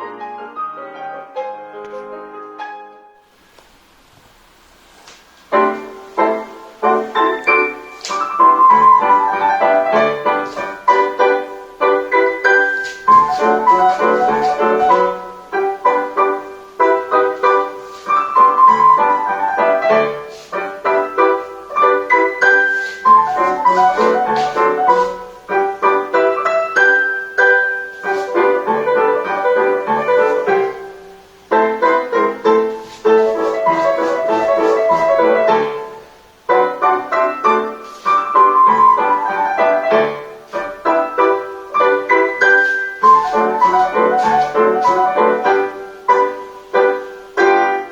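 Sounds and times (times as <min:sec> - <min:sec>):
solo piano music: 0:00.0 - 0:03.6, 0:04.4 - 0:47.9.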